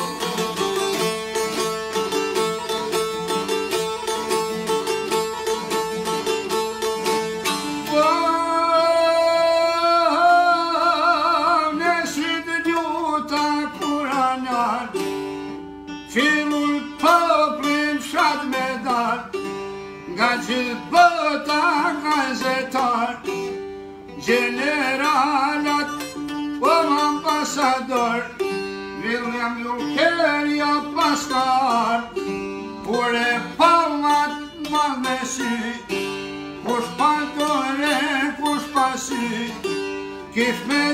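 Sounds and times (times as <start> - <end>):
plucked lutes playing fast: 0.0 - 40.9.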